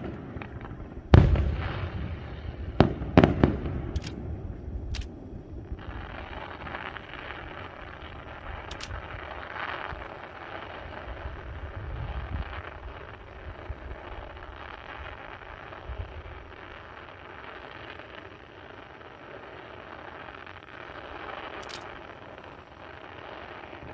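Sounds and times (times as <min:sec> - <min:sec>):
distant fireworks booming and crackling: 0:00.0 - 0:23.9.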